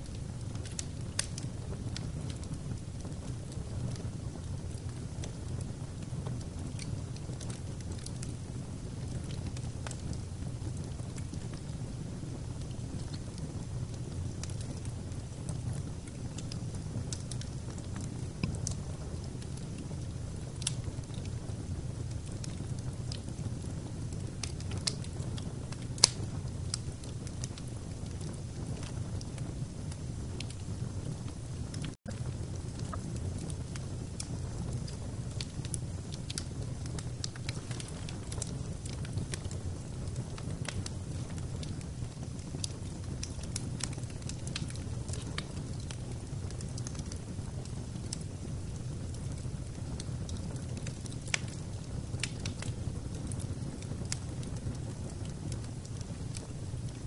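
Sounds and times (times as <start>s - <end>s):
fire crackles and pops: 0.0s - 57.0s
fire rumbling in fireplace: 0.0s - 57.0s.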